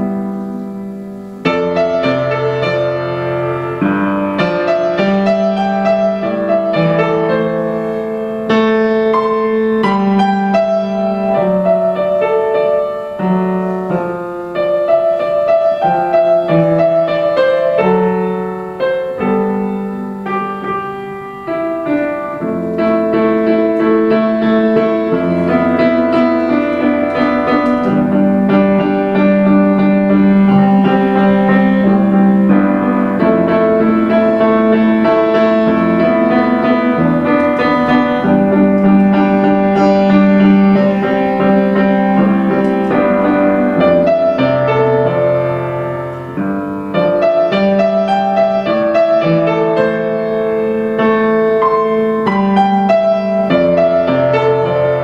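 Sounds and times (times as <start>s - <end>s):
upright piano playing slow piece: 0.0s - 55.0s.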